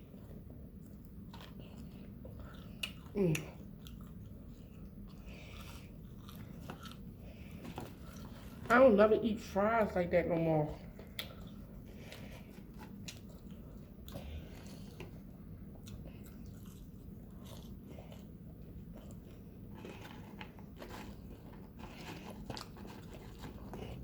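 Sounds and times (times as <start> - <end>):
chewing crunchy food: 0.0 - 8.7, 10.7 - 24.0.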